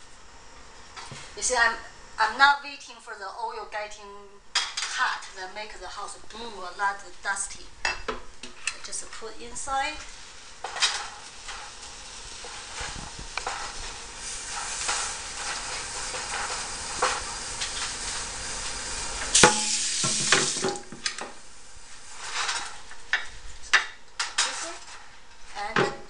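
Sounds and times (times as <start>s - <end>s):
oil sizzling: 4.5s - 26.0s.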